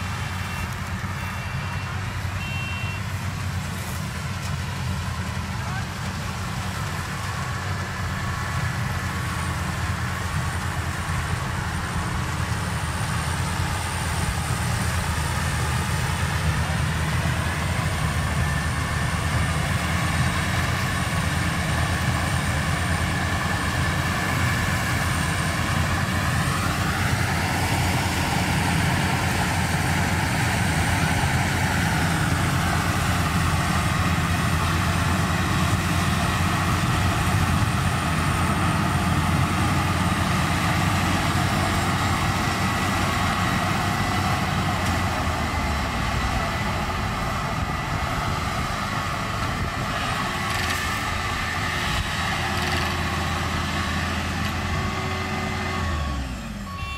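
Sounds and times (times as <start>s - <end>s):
combine harvester engine drone: 0.0s - 56.9s.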